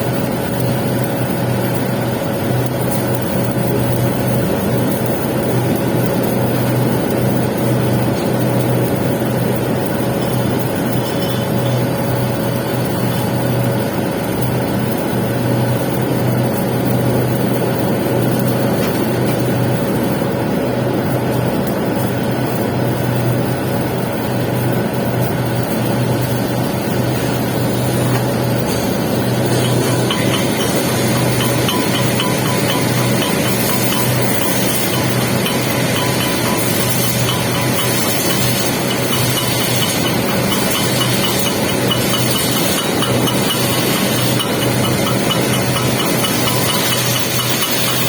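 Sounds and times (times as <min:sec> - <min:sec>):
arc welding crackle: 0:00.0 - 0:48.0.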